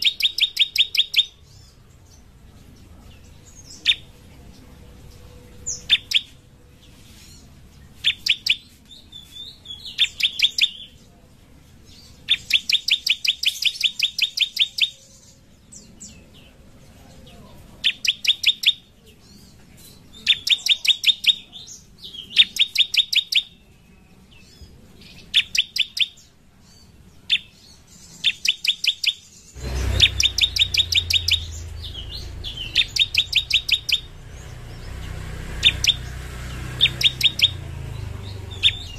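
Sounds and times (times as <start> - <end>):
bird chirping rapidly: 0.0 - 11.0, 11.9 - 16.6, 17.7 - 38.9.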